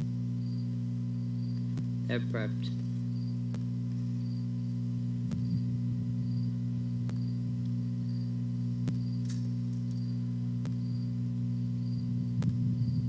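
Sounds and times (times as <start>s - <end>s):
faint pulsing high tone: 0.0s - 13.0s
low electrical hum: 0.0s - 13.0s.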